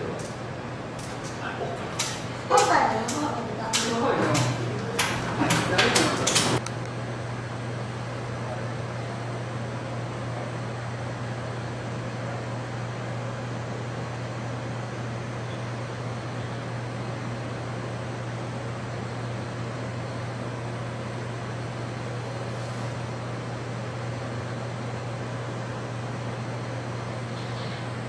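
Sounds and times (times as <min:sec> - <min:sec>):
ventilation hum and hiss: 0:00.0 - 0:28.0.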